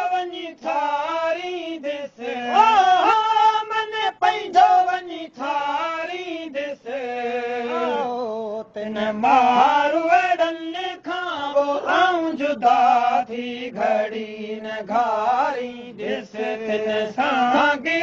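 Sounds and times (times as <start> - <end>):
person singing folk song: 0.0 - 18.0.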